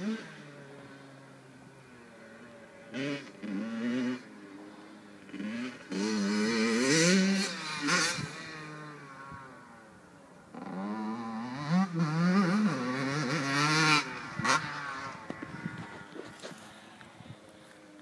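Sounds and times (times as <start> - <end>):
motocross bike engine revving: 0.0 - 9.9, 10.5 - 17.2.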